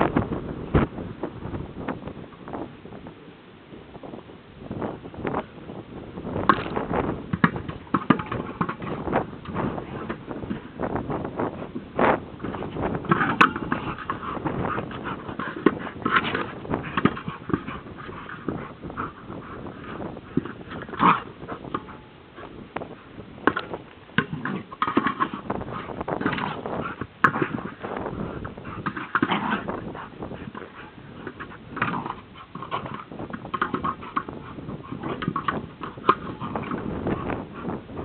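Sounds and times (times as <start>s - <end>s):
ball bumping and scuffling on grass: 0.0s - 3.2s, 4.1s - 38.0s.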